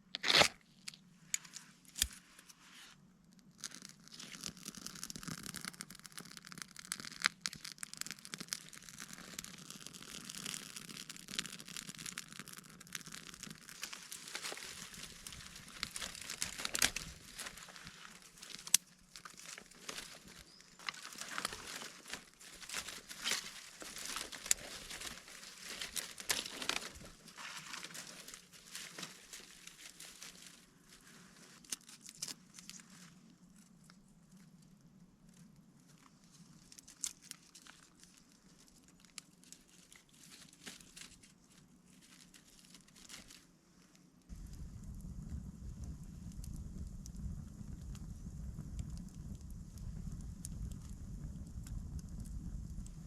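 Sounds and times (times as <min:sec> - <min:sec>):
crinkling and rustling: 0:00.0 - 0:48.1.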